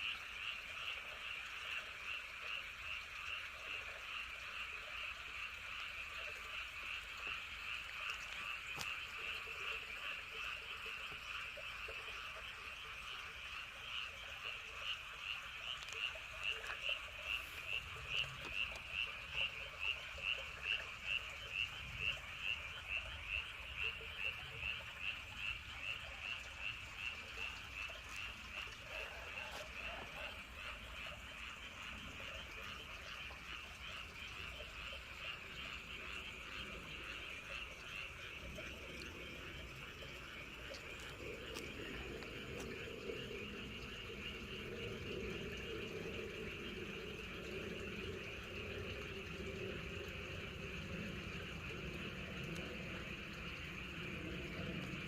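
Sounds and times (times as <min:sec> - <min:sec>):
frog pulsed calls: 0:00.0 - 0:55.0
frogs croaking chorus: 0:00.0 - 0:55.0.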